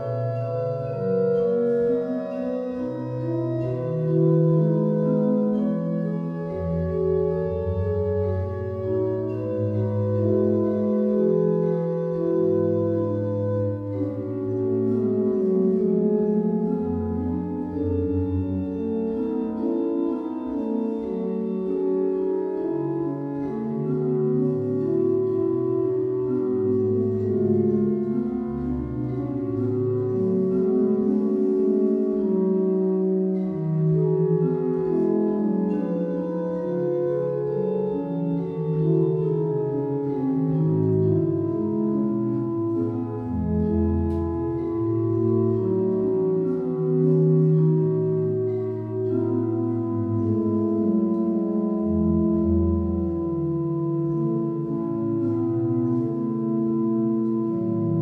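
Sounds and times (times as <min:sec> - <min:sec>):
deep organ pedal notes: 0:00.0 - 0:58.0
pipe organ chorale: 0:00.0 - 0:58.0.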